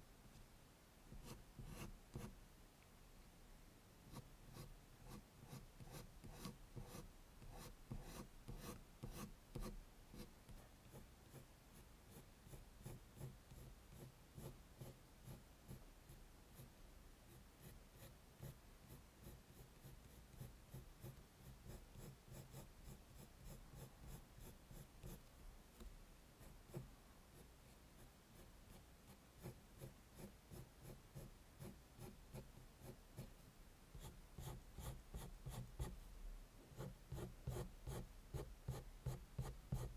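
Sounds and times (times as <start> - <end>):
pencil scratching on paper: 1.2 - 2.3, 4.1 - 15.8, 17.3 - 25.3, 26.4 - 33.3, 33.9 - 36.0, 36.8 - 39.9.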